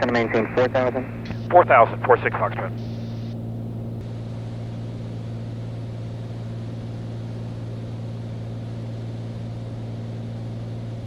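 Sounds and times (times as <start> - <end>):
airplane engine and propeller droning: 0.0 - 11.0.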